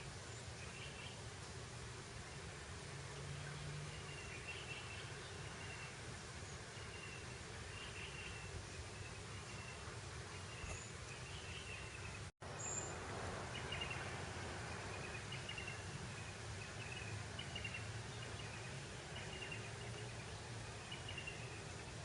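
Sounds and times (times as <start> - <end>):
high chirps of birds or insects: 0.0 - 1.4, 3.4 - 22.0.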